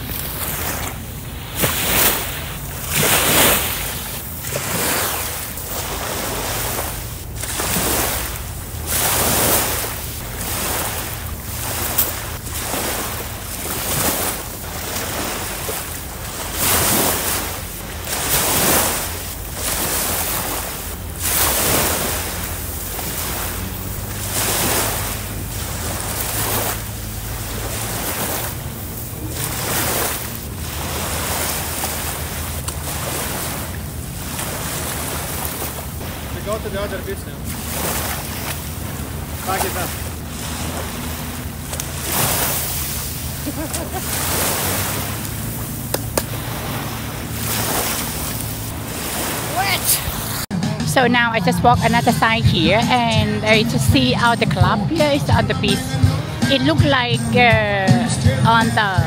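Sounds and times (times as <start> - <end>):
small waves washing on beach: 0.0 - 50.5
steady low hum: 0.0 - 50.5.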